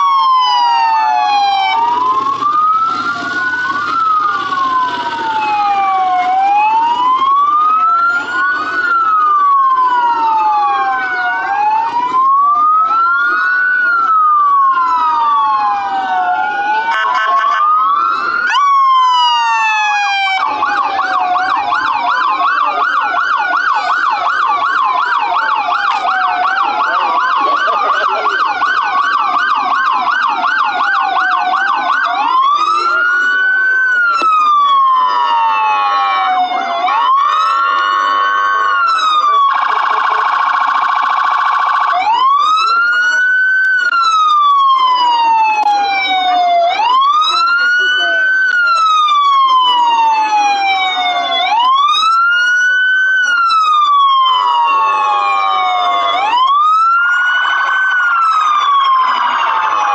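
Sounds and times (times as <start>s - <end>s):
siren fast yelp: 0.0s - 59.9s
siren wailing: 0.0s - 59.9s.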